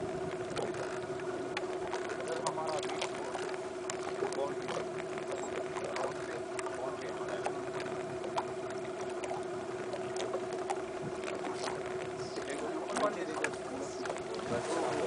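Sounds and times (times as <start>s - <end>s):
boat motor humming: 0.0s - 15.0s
water sloshing against hull: 0.0s - 15.0s.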